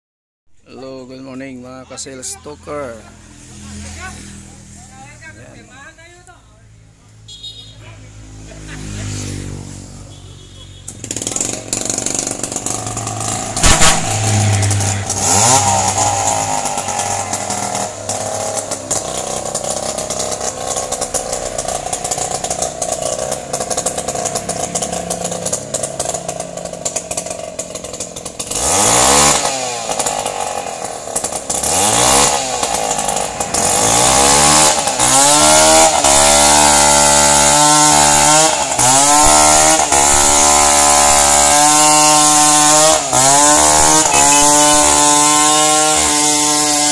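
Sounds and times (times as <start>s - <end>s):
chainsaw idling and revving: 1.5s - 6.4s, 10.9s - 46.9s.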